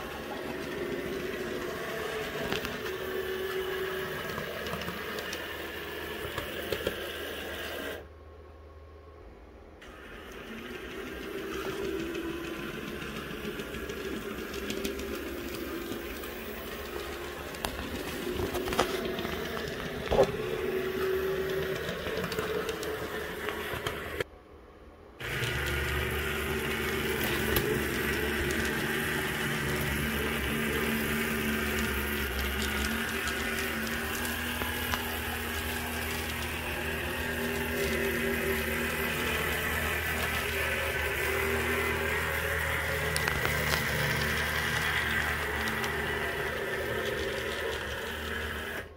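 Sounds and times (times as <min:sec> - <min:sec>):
model wheels rolling on track: 0:00.0 - 0:08.0, 0:09.8 - 0:24.3, 0:25.2 - 0:48.9
small electric motors humming: 0:00.0 - 0:08.1, 0:09.8 - 0:24.3, 0:25.2 - 0:48.9.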